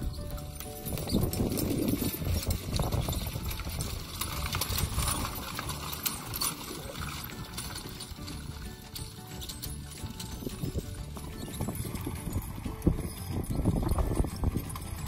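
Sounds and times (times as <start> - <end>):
seed drill rattling over stony soil: 0.0 - 15.0.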